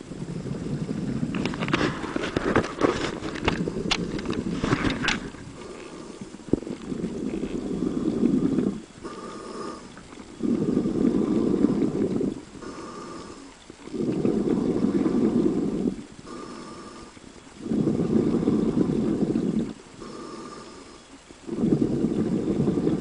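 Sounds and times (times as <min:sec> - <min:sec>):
crackling bubbles and splashing: 0:00.0 - 0:23.0
diver exhaling bubbles: 0:00.1 - 0:23.0
diver inhaling through regulator: 0:00.3 - 0:23.0.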